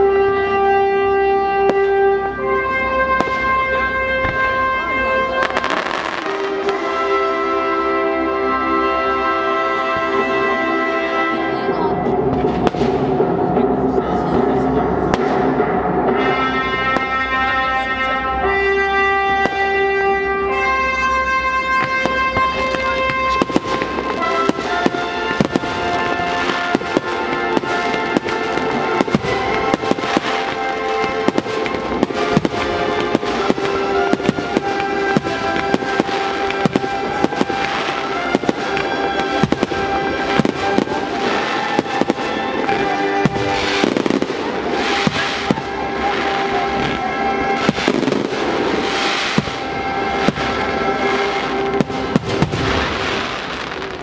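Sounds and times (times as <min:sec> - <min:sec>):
firework crackle: 0:00.0 - 0:14.4, 0:19.3 - 0:54.0
music playing: 0:00.0 - 0:54.0.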